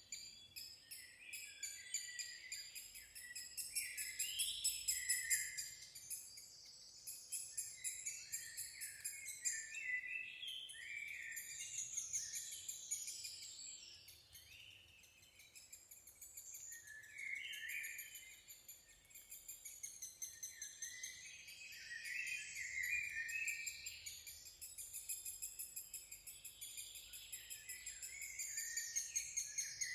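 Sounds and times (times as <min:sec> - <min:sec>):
birds singing in chorus: 0:00.0 - 0:29.9.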